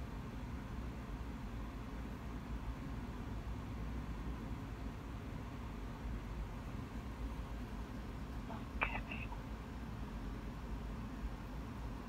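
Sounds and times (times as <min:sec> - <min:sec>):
phone line hum and hiss: 0:00.0 - 0:12.0.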